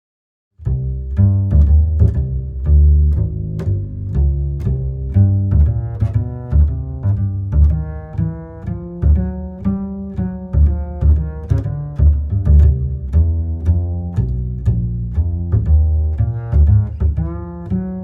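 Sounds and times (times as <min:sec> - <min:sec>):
deep string notes: 0:00.6 - 0:18.0.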